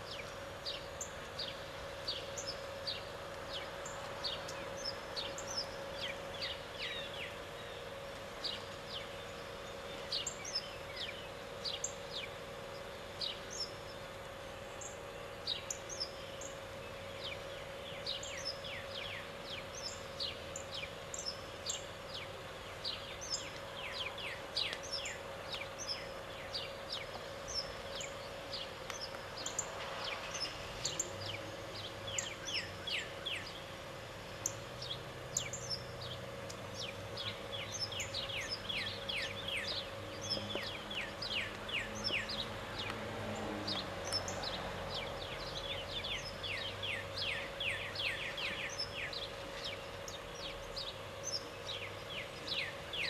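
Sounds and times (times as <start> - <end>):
faint steady hum: 0.0 - 53.0
small birds chirping: 0.0 - 53.0.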